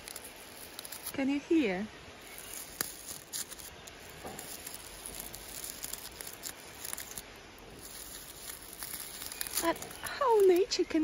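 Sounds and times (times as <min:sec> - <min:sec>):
dry flower bracts crackling: 0:00.0 - 0:11.0.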